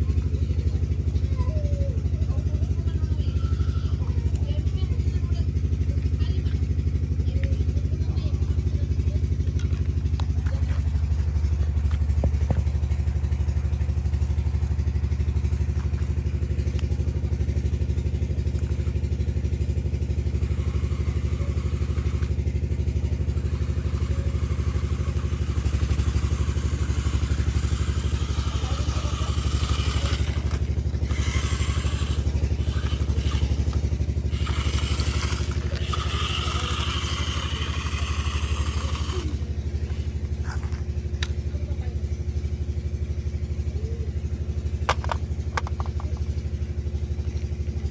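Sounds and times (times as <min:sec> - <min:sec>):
tractor engine idling: 0:00.0 - 0:47.9.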